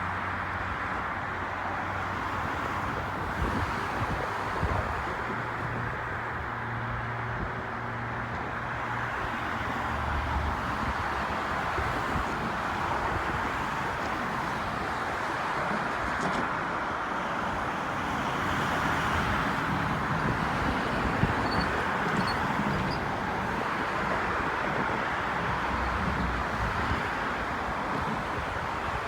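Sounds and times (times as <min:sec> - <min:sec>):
passing cars traffic noise: 0:00.0 - 0:29.0.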